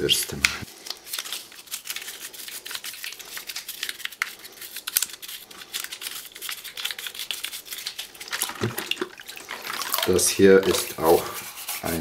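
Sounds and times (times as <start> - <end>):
toothbrush scrubbing plastic: 0.8 - 12.0.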